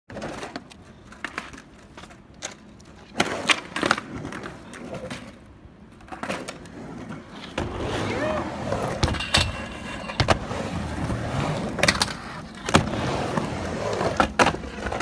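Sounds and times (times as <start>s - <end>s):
skateboard clacks: 0.1s - 15.0s
skateboard wheels rolling on asphalt: 0.1s - 15.0s.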